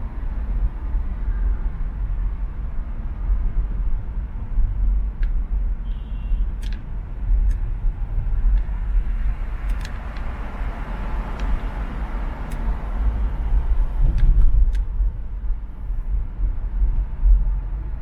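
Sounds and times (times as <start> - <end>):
traffic road rumble: 0.0 - 18.0.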